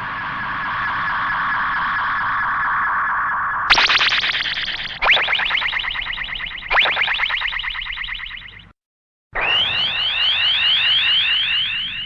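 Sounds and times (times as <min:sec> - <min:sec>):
fast electronic pulsing tone: 0:00.2 - 0:08.7, 0:09.4 - 0:12.0
rising electronic chirps: 0:00.8 - 0:08.7, 0:09.4 - 0:12.0.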